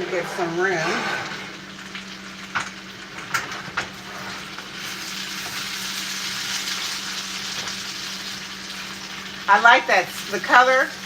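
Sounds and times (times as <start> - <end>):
food sizzling in a frying pan: 0.0 - 11.0
steady low hum: 0.0 - 11.0.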